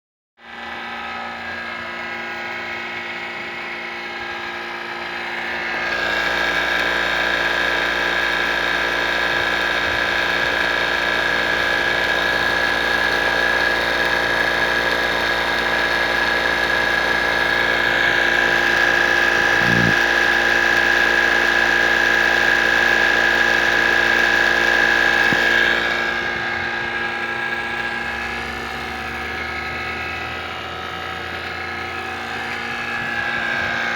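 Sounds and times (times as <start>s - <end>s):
vacuum pump whining: 0.4s - 33.9s.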